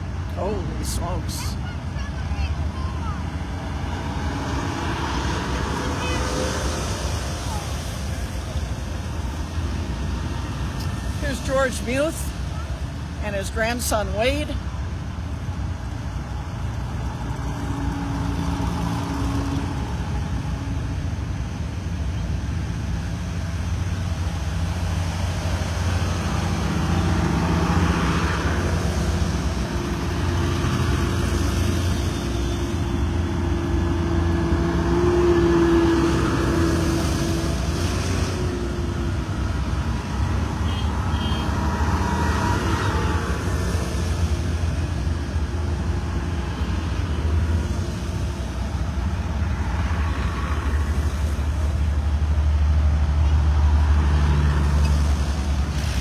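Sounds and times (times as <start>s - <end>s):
tractors and trucks driving past: 0.0s - 56.0s.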